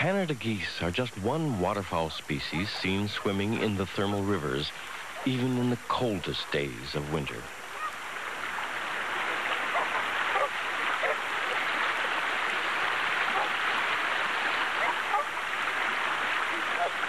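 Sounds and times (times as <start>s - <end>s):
river rushing over white water: 0.1s - 17.0s.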